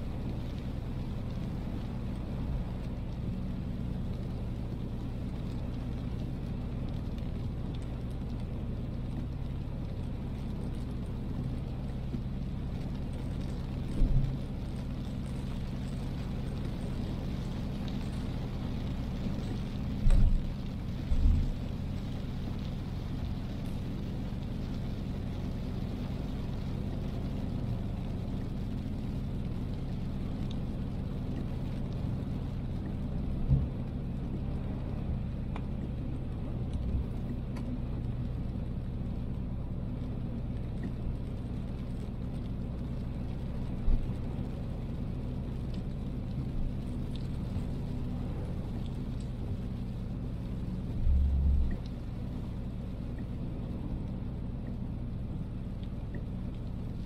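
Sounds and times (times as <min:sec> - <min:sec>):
car engine and road noise: 0:00.0 - 0:57.0
rain hiss: 0:00.0 - 0:57.0.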